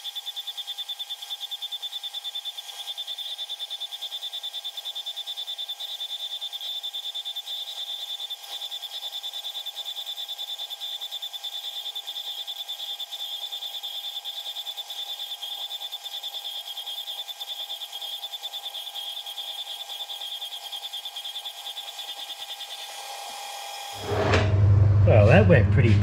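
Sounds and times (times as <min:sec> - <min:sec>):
saw cutting metal pulsing whine: 0:00.0 - 0:24.7.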